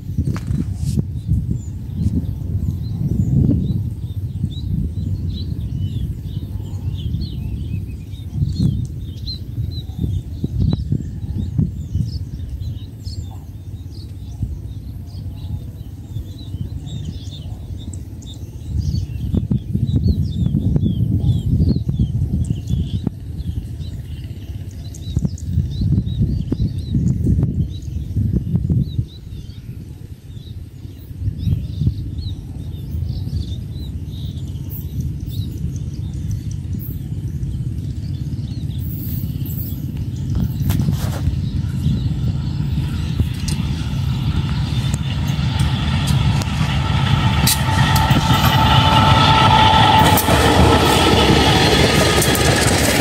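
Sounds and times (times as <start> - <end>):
low gusty rumble: 0.0 - 53.0
wind buffeting microphone: 0.0 - 53.0
small birds chirping: 1.0 - 53.0.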